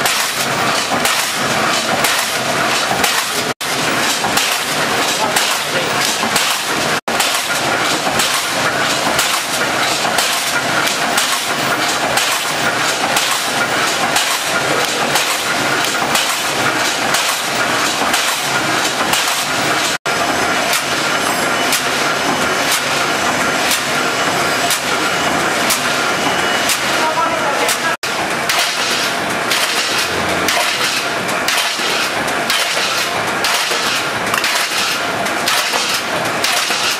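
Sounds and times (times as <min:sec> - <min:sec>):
press stamping metal: 0:00.0 - 0:36.9
steady machine noise: 0:00.0 - 0:36.9.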